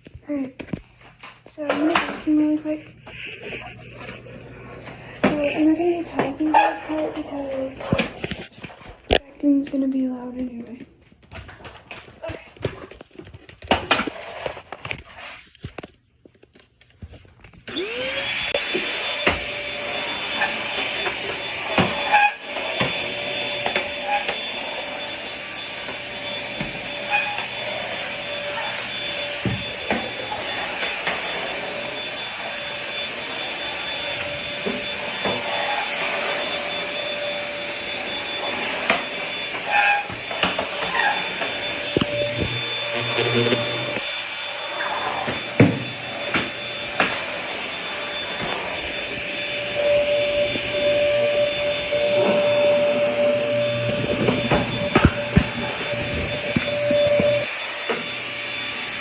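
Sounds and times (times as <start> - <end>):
vacuum cleaner running: 1.6 - 9.9, 17.6 - 59.0.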